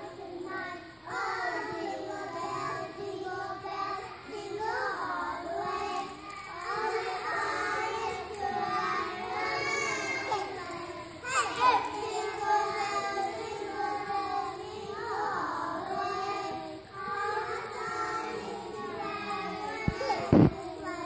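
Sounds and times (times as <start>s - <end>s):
children singing: 0.0s - 21.0s.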